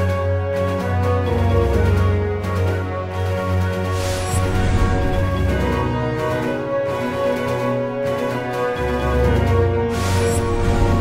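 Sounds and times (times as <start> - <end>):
bass-heavy background music: 0.0 - 11.0.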